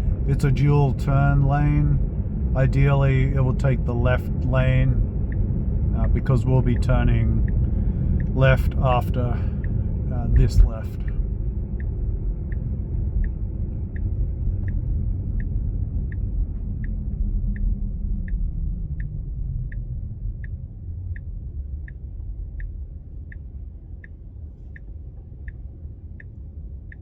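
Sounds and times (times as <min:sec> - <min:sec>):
road rumble: 0:00.0 - 0:27.0
turn signal ticking: 0:00.0 - 0:27.0.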